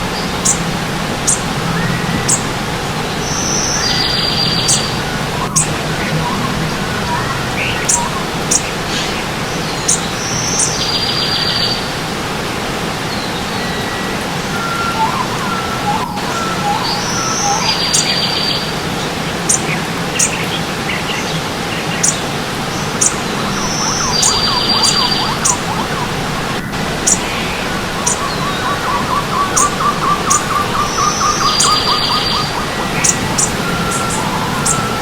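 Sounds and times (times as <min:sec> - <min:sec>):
birds chirping: 0:00.0 - 0:35.0
stream water rushing: 0:00.0 - 0:35.0
buzzy bird trill: 0:00.1 - 0:09.0, 0:13.3 - 0:18.8, 0:19.5 - 0:35.0
soft whistled bird notes: 0:00.2 - 0:11.9, 0:13.1 - 0:18.8, 0:19.5 - 0:35.0.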